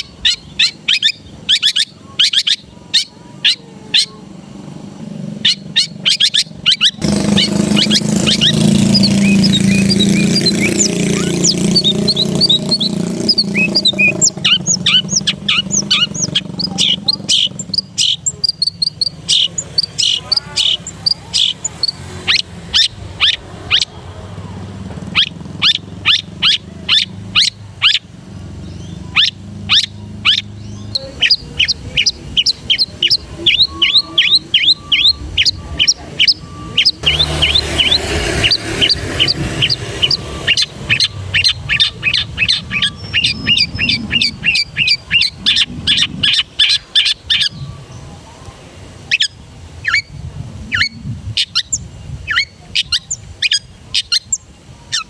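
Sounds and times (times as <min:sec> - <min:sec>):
shrike singing: 0:00.0 - 0:48.2.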